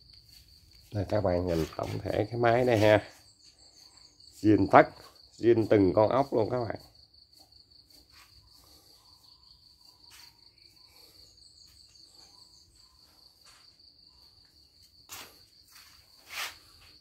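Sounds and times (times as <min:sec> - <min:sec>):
cricket trill: 0:00.0 - 0:17.0.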